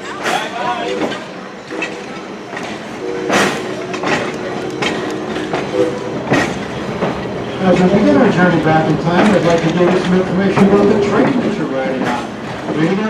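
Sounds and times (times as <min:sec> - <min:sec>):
train running rumble: 0:00.0 - 0:13.0
train wheels clacking: 0:00.0 - 0:13.0.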